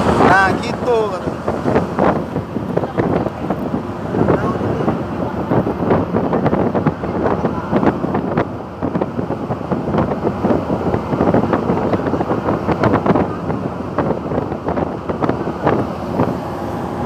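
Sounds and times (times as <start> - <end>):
ferry low rumble: 0.0 - 17.0
wind buffeting microphone: 0.0 - 17.0.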